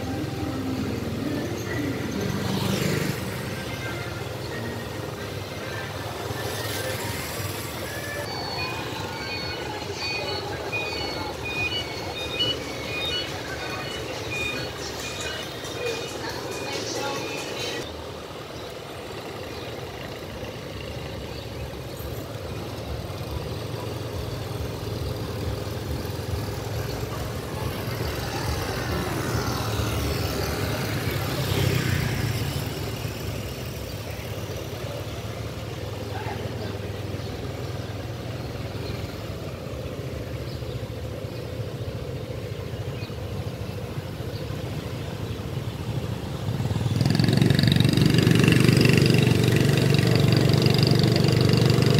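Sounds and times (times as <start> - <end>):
close loud engine: 0.0 - 51.9
steady engine hum: 0.0 - 51.9
vehicle passing: 0.0 - 51.9.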